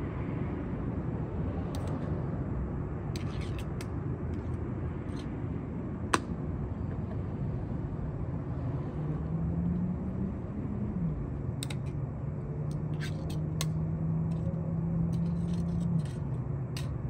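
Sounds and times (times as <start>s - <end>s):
low engine hum: 0.0s - 17.0s
traffic rumble: 0.0s - 17.0s.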